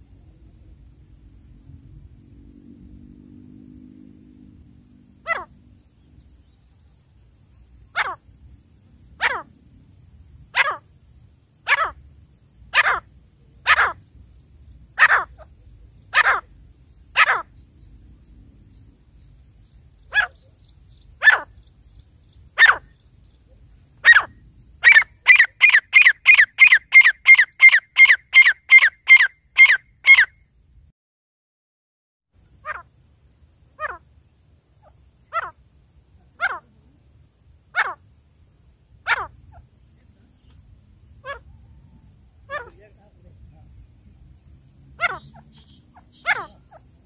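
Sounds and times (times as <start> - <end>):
francolin calling: 5.2 - 30.4, 32.4 - 33.0, 33.7 - 47.0.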